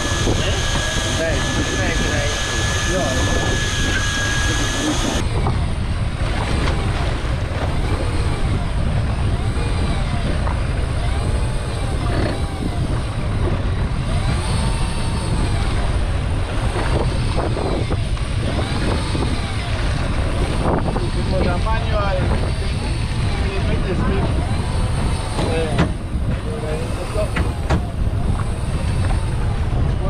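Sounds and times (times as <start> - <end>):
faint whines: 0.0 - 30.0
wind rumble on microphone: 0.0 - 30.0.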